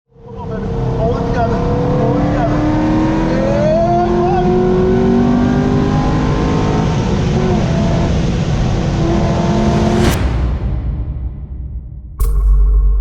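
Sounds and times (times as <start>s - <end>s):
car engine accelerating: 0.4s - 11.0s.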